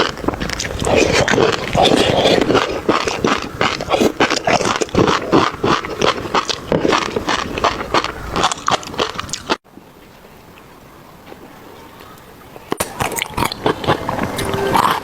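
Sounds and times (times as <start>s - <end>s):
lip-smacking: 0.0s - 9.6s, 12.1s - 15.0s
slurping: 0.0s - 9.6s, 12.5s - 15.0s
wet chewing: 0.0s - 9.6s, 10.2s - 15.0s.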